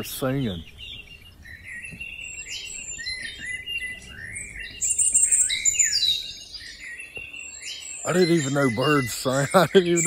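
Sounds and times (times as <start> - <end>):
songbirds singing: 0.0 - 10.0.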